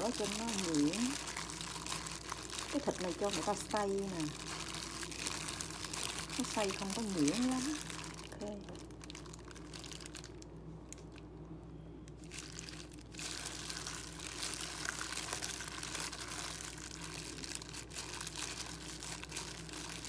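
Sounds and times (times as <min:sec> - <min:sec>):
wet squishing of meat mixture: 0:00.0 - 0:11.2, 0:12.2 - 0:20.0
plastic glove crinkling: 0:00.0 - 0:11.3, 0:12.1 - 0:20.0.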